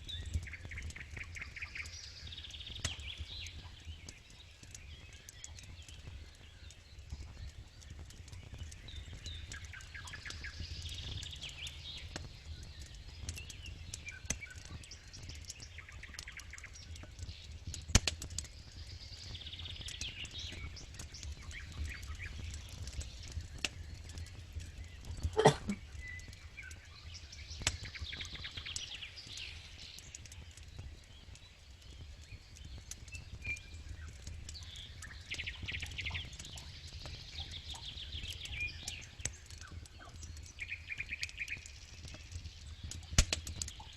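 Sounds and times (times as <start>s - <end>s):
campfire crackling: 0.0s - 43.9s
fire popping: 0.0s - 43.9s.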